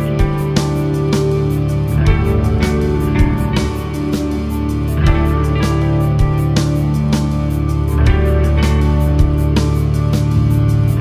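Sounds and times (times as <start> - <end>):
background music with guitar: 0.0 - 11.0.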